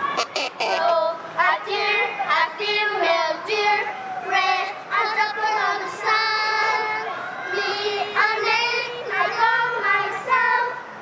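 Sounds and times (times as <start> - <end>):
children singing: 0.2 - 10.8.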